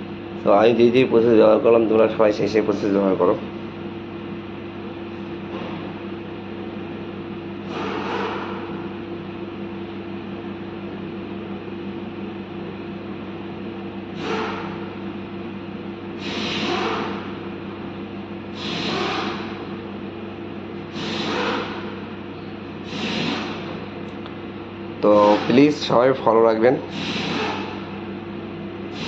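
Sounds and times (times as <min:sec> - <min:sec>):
dust extraction vacuum humming: 0:00.0 - 0:29.0.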